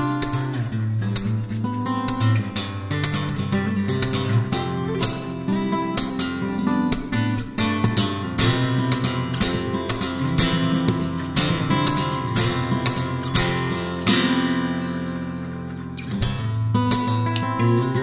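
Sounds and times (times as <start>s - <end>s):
acoustic guitar strummed: 0.0s - 18.0s.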